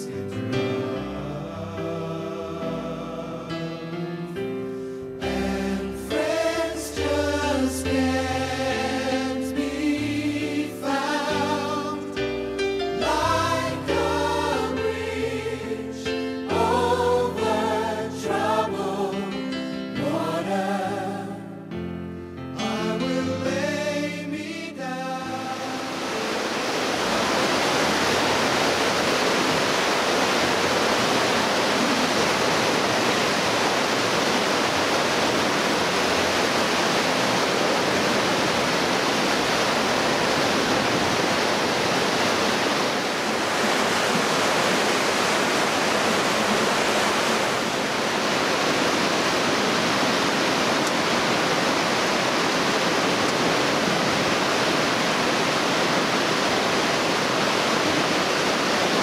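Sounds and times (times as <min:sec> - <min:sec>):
river rushing through gorge: 0:05.2 - 0:19.7, 0:22.6 - 0:59.0.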